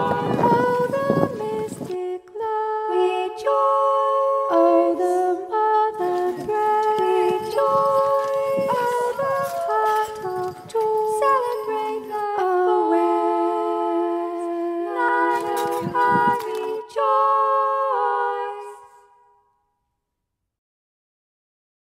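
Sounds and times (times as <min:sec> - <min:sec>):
voices singing in harmony: 0:00.0 - 0:19.2.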